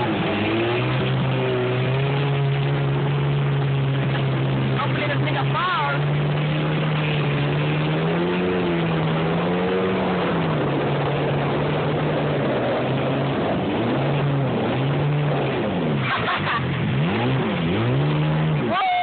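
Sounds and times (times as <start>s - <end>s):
jet ski engine running: 0.0s - 19.0s
rushing water: 0.0s - 19.0s.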